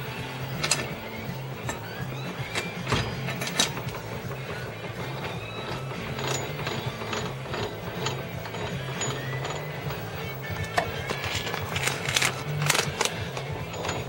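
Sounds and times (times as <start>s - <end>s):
motorcycle gears clicking: 1.6s - 14.0s.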